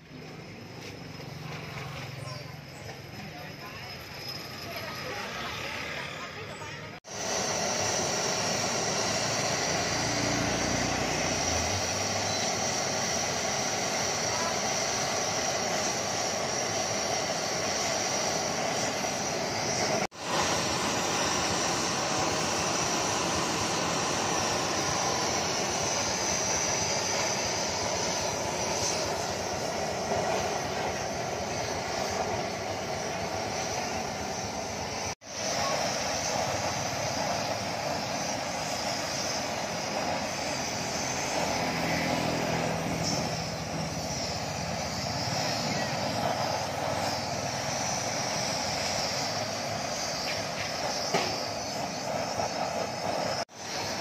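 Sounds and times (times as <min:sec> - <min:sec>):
blowtorch flame roaring: 0:03.1 - 0:54.0.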